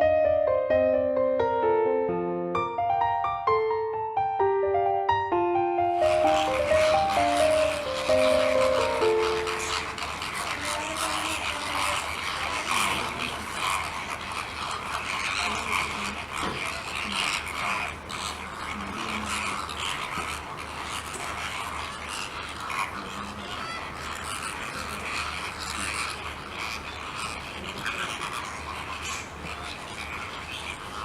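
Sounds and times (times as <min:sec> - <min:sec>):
flock of flamingos calling: 0:05.8 - 0:31.0.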